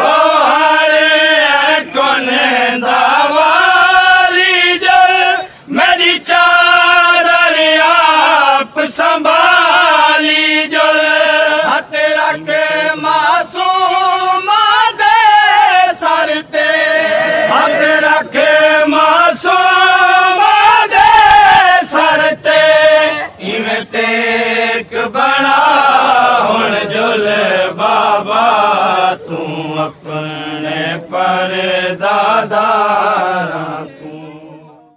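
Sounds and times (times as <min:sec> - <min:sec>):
man chanting a lament unaccompanied: 0:00.0 - 0:34.9.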